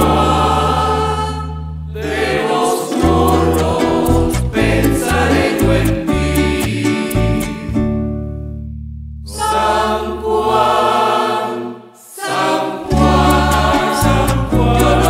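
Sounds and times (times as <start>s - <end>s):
choir singing: 0.0s - 7.8s, 9.3s - 15.0s.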